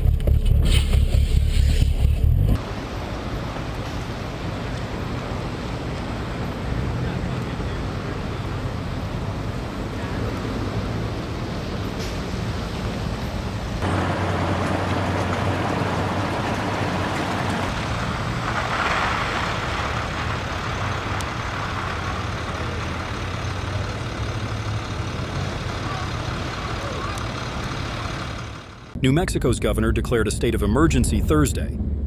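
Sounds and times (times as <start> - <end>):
road noise: 0.0 - 32.0
vehicle engine hum: 0.0 - 32.0.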